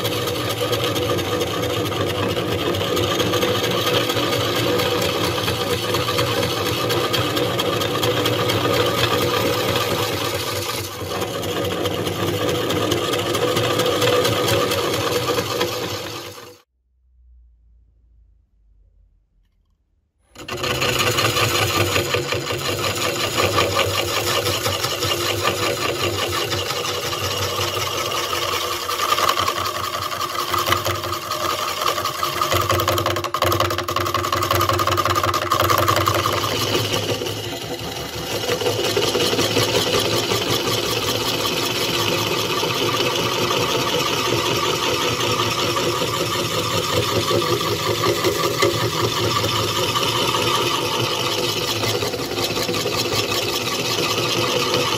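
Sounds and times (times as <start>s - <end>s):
electric power tool motor running: 0.0s - 16.6s, 20.3s - 32.9s, 34.4s - 54.9s.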